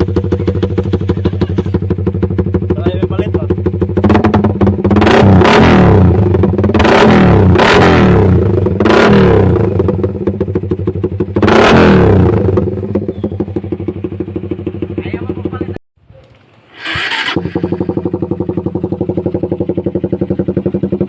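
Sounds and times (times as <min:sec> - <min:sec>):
motorcycle engine revving: 0:00.0 - 0:15.8, 0:16.6 - 0:21.0.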